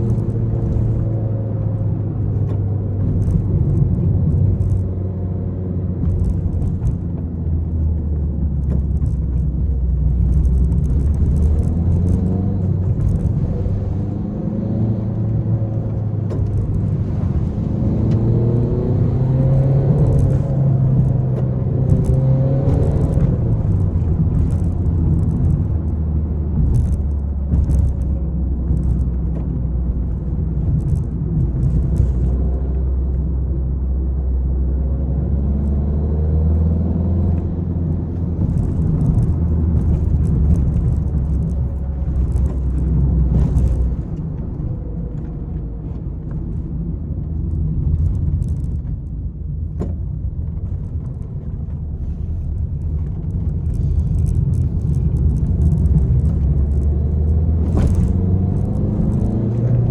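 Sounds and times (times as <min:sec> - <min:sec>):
car engine under hard driving: 0:00.0 - 0:59.9.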